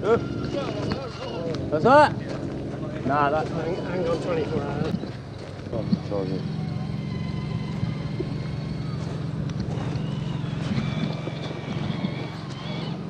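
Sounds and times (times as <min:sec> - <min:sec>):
toy truck motor whining: 0:00.0 - 0:13.0
wind noise on microphone: 0:00.0 - 0:13.0.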